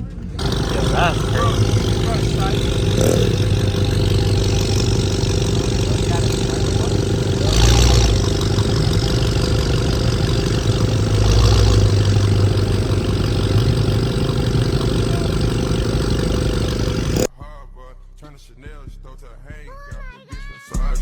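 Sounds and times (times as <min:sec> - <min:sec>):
car engine idling: 0:00.0 - 0:17.3.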